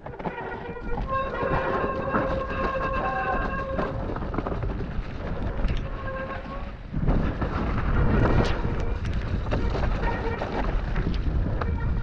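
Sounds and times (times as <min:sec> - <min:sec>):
bike rattling: 0:00.0 - 0:12.0
bike tyre noise: 0:00.0 - 0:12.0
wind buffeting microphone: 0:00.0 - 0:12.0.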